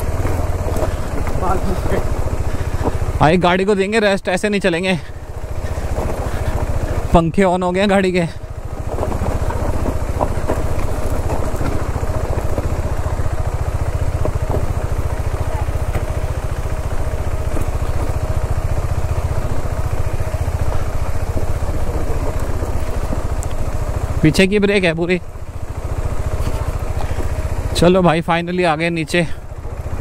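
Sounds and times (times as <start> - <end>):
motorcycle engine running: 0.0 - 30.0
radiator cooling fan: 0.0 - 30.0.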